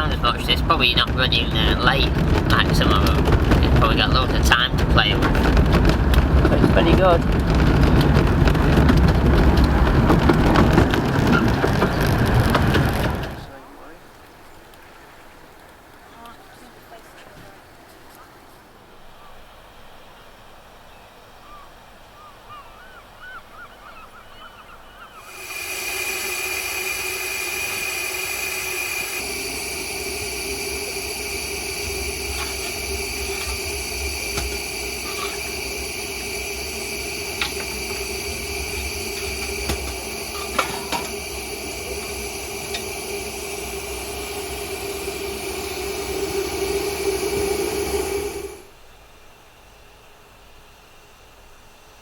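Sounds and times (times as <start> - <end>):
miniature train running: 0.0 - 19.5, 25.2 - 48.8.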